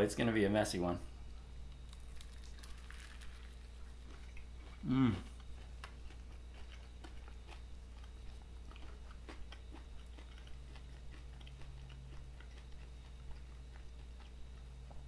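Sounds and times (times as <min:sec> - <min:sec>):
person chewing: 0:01.9 - 0:15.0.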